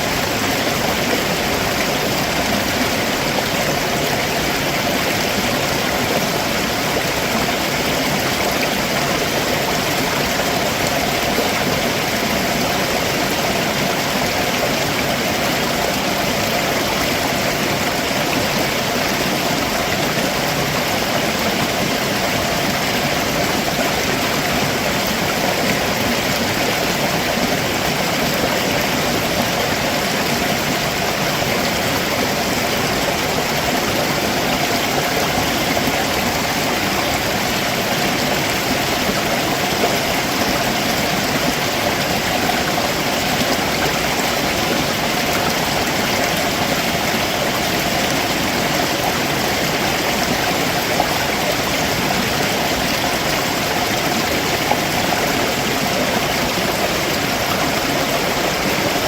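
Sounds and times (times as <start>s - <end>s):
stream water rushing over rocks: 0.0s - 59.0s.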